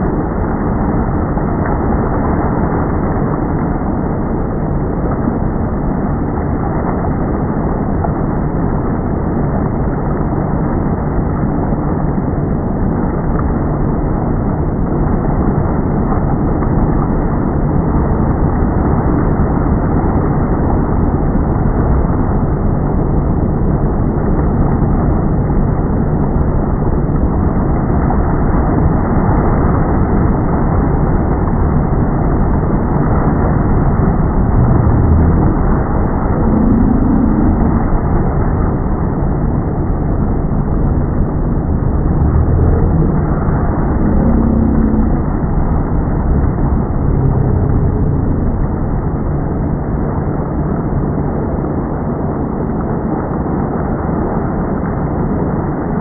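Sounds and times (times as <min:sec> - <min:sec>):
motorboat engine running: 0:00.0 - 0:56.0
water noise: 0:00.0 - 0:56.0.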